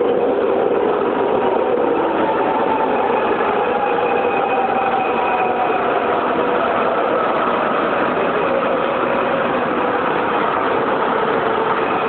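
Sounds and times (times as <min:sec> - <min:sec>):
light rail train running: 0:00.0 - 0:12.0.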